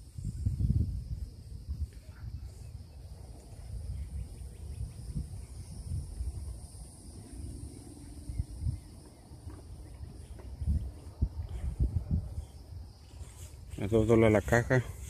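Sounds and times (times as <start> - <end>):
insects chirring: 0.0 - 15.0
wind rumble on microphone: 0.0 - 15.0.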